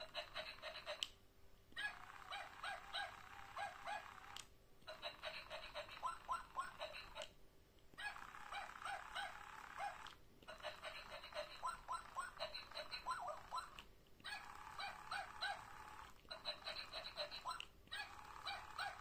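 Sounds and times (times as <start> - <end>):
toy puppy yips: 0.0 - 1.0, 1.7 - 7.3, 7.9 - 19.0.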